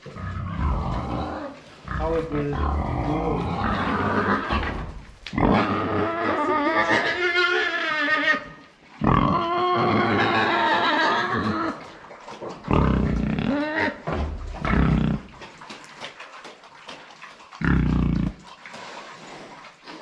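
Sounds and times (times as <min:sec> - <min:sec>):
pigs grunting: 0:00.0 - 0:20.0
pigs squealing: 0:00.1 - 0:18.5.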